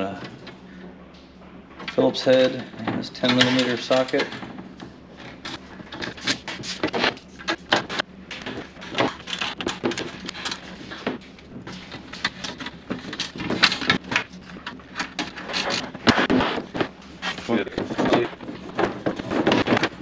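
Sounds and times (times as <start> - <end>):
metal drawer clicking and clattering: 1.8 - 4.5, 5.2 - 20.0.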